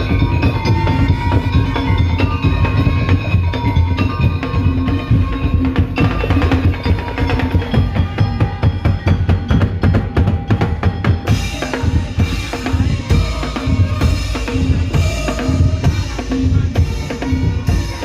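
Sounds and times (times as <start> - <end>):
heavy bass drums: 0.0 - 18.0
ringing pitched percussion notes: 0.0 - 18.0.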